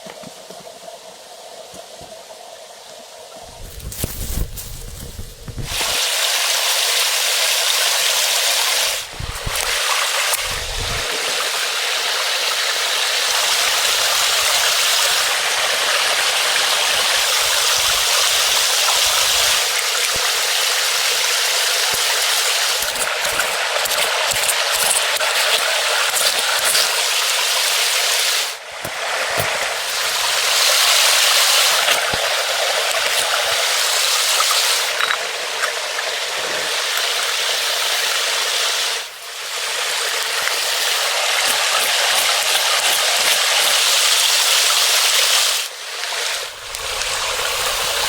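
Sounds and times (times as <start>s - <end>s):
water rushing: 5.4s - 48.0s.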